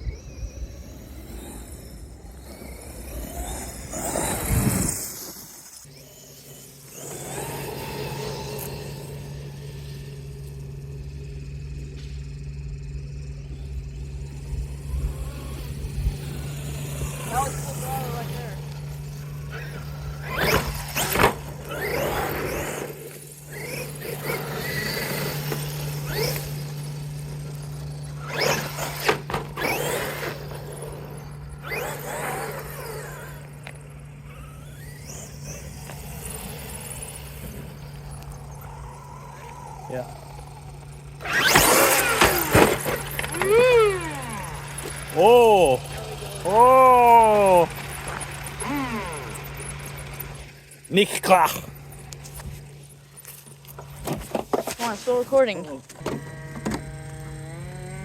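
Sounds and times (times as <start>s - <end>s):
rc car motor at full throttle: 0.0s - 58.0s
steady low hum: 0.0s - 58.0s.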